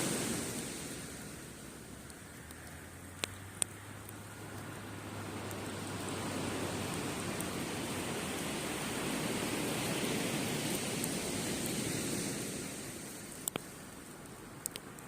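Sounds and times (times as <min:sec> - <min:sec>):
campfire crackling: 0:00.0 - 0:15.0
surf washing onto beach: 0:00.0 - 0:15.0.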